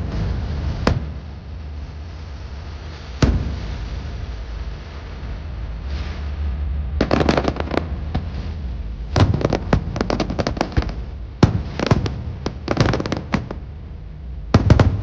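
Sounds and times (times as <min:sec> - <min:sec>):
fireworks bangs and pops: 0:00.0 - 0:06.3, 0:07.0 - 0:15.0
steady low rumble: 0:00.0 - 0:15.0.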